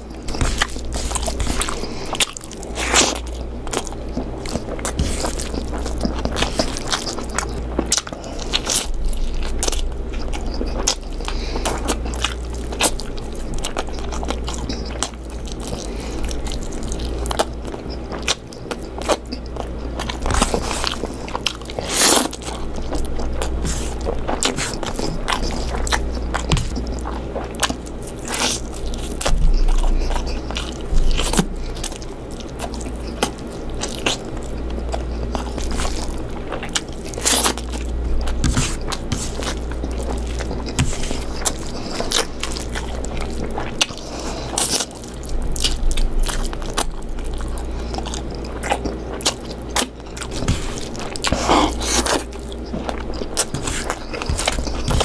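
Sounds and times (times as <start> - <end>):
person chewing and biting: 0.0 - 55.0
steady low hum: 0.0 - 55.0.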